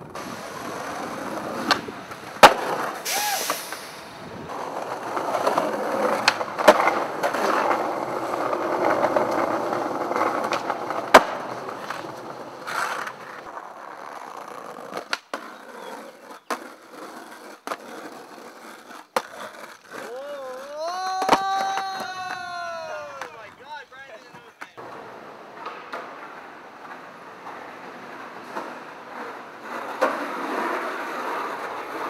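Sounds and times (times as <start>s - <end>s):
skateboard clacks: 0.0s - 32.0s
skateboard trucks grinding: 0.0s - 32.0s
skateboards rolling on concrete: 0.0s - 32.0s.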